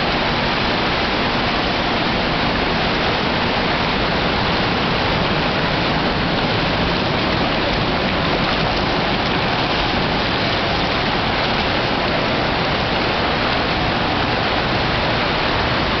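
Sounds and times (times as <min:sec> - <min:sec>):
indoor swimming pool rushing noise: 0:00.0 - 0:16.0.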